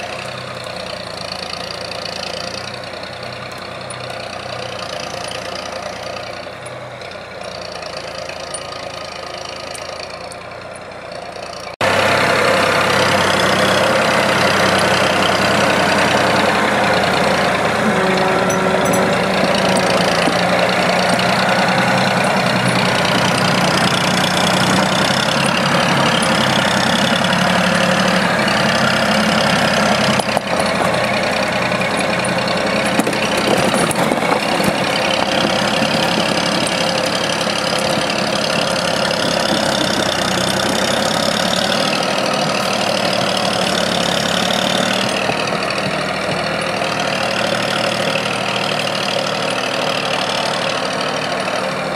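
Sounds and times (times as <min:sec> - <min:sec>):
forestry machine engine running: 0:00.0 - 0:51.9.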